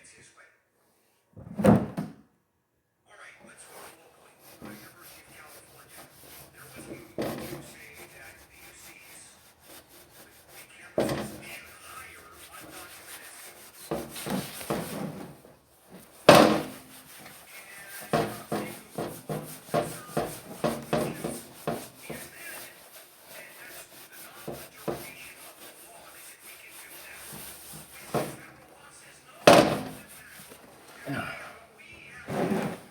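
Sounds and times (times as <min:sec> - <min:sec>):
rubbing and scrubbing on metal: 0:03.5 - 0:32.9.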